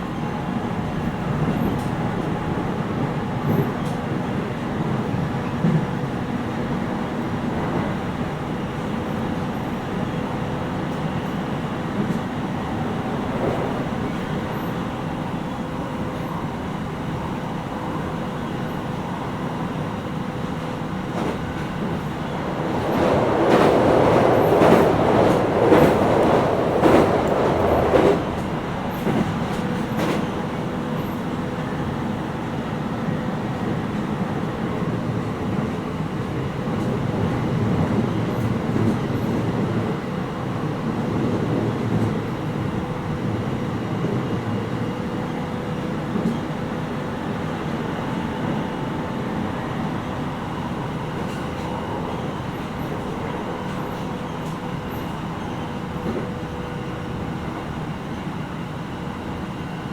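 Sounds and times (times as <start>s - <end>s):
train wheel and track noise: 0.0s - 59.9s.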